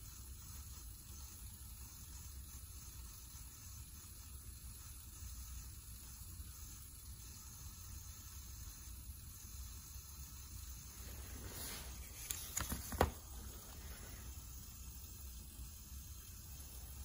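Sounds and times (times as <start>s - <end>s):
soft hiss: 0.0s - 17.0s.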